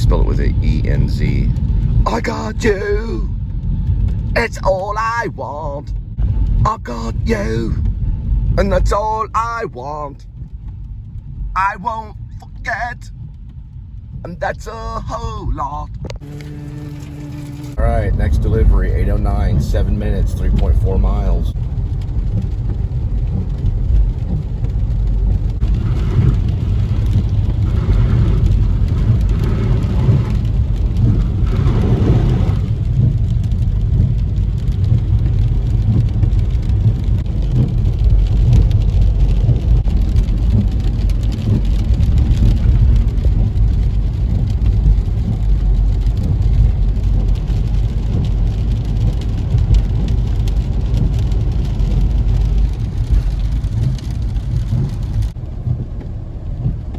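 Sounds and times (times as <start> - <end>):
car interior engine and tyre rumble: 0.0 - 56.9.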